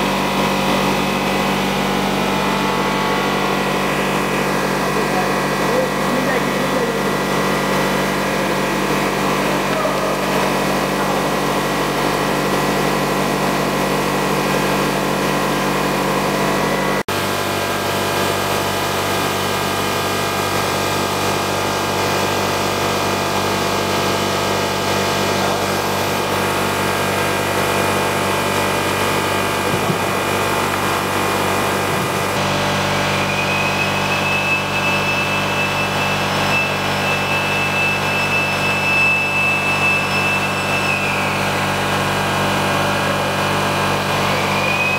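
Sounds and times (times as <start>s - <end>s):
machine hum: 0.0s - 44.9s.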